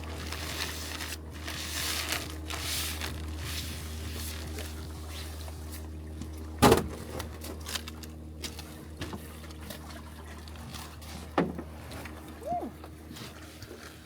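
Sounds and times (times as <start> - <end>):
boat motor running: 0.0 - 14.0
water splashing and trickling: 0.0 - 14.0.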